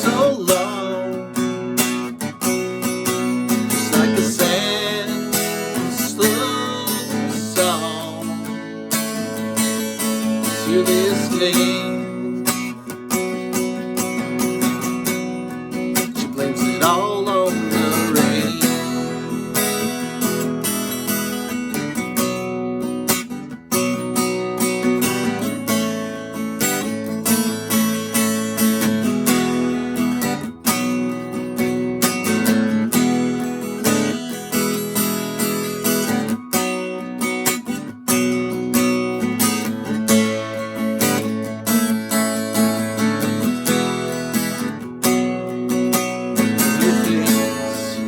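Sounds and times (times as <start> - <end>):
acoustic guitar strumming chords: 0.0 - 48.0.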